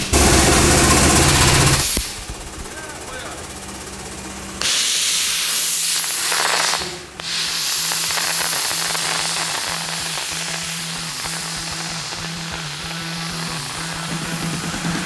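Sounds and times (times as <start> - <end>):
dry ice blasting hiss: 0.0 - 2.3, 4.6 - 15.0.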